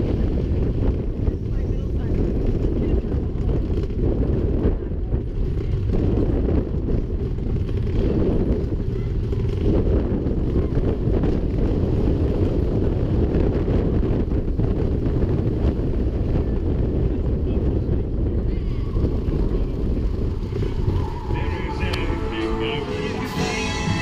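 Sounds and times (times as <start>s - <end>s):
wind buffeting microphone: 0.0s - 23.5s
roller coaster train rumbling: 0.0s - 24.0s.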